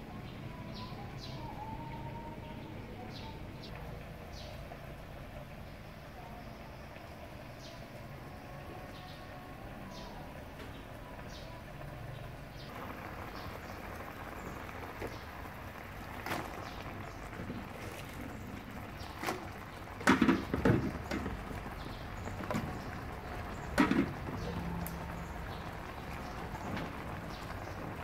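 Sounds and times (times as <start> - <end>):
stir-frying sizzle in a wok: 3.7 - 28.0.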